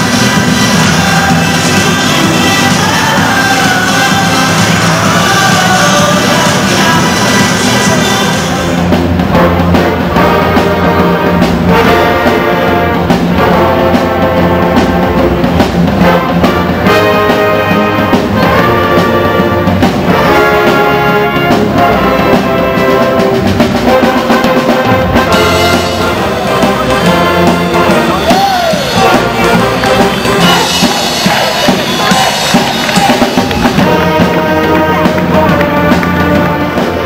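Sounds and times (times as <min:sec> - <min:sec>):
electric bass: 0:00.0 - 0:30.9
sousaphones: 0:00.0 - 0:36.8
drum kit: 0:00.0 - 0:37.0
trumpets and saxophones: 0:00.0 - 0:37.0.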